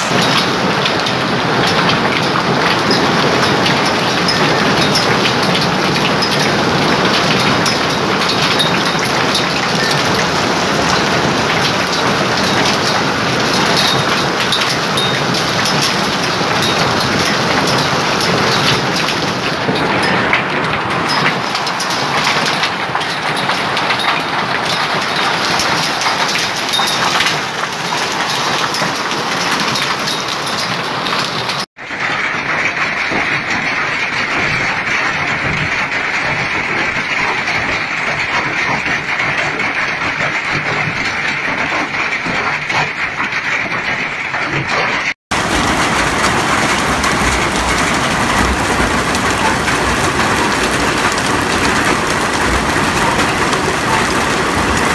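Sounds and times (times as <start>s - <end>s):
hailstones clattering on roofs: 0.0s - 54.9s.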